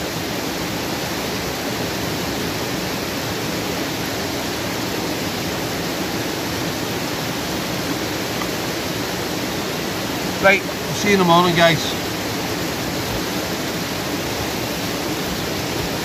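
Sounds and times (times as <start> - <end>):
water hissing on embers: 0.0 - 16.0
waterfall rushing: 0.0 - 16.0.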